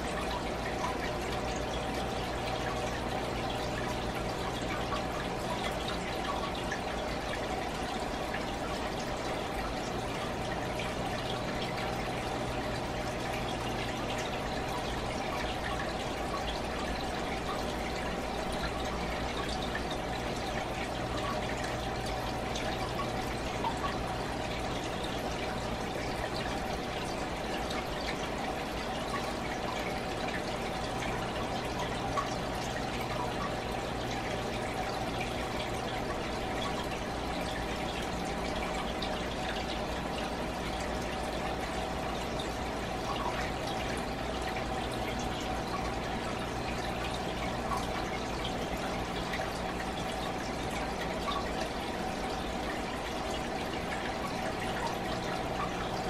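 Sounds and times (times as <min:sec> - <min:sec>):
aquarium water trickling: 0:00.0 - 0:56.0
constant low hum: 0:00.0 - 0:56.0.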